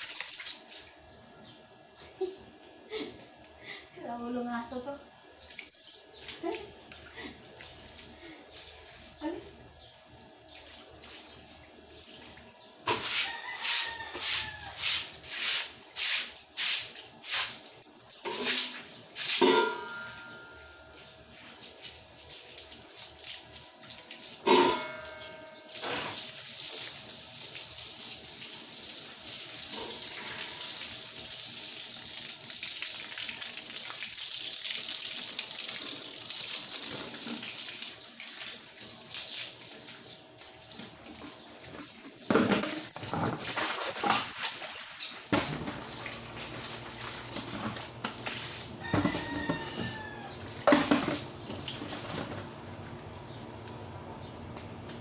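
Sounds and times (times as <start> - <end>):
hose water spraying on tiles: 5.4 - 19.7, 21.4 - 24.6, 25.6 - 52.4.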